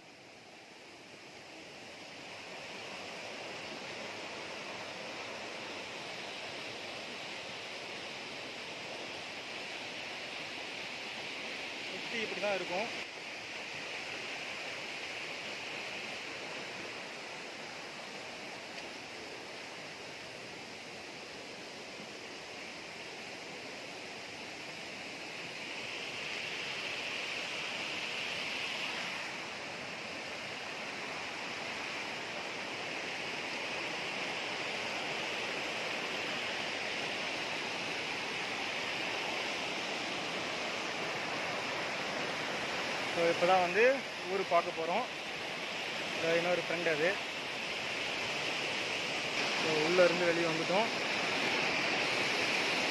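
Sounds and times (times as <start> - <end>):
hill stream rushing: 0.0 - 52.9.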